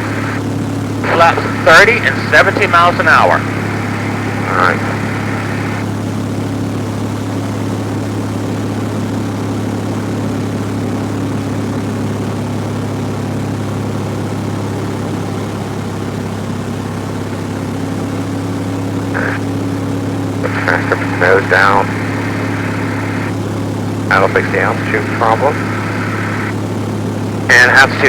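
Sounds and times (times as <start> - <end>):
aircraft engine and propeller droning: 0.0 - 28.0.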